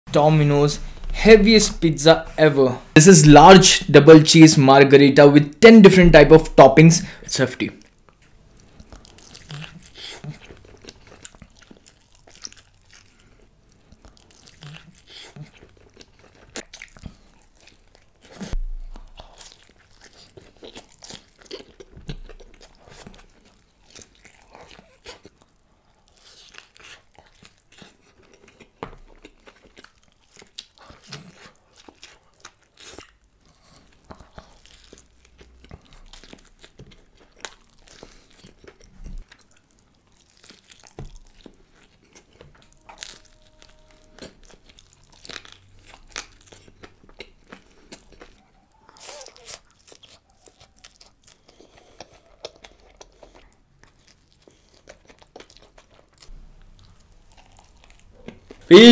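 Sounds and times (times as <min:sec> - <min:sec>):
man chewing crunchy pizza: 0:05.6 - 0:58.9.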